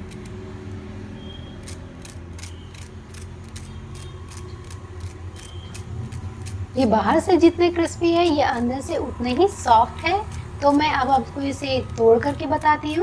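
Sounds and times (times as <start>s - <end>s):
knife scraping crisp crust: 1.5s - 9.2s, 9.9s - 13.0s.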